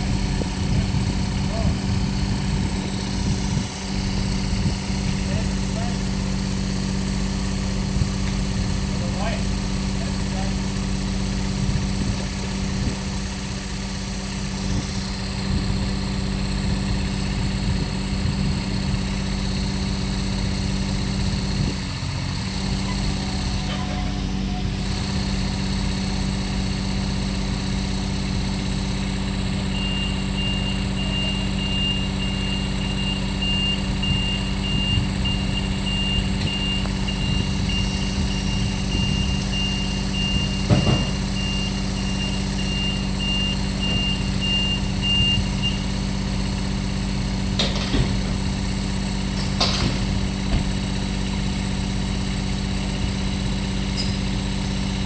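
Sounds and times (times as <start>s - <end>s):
crane engine running: 0.0s - 55.0s.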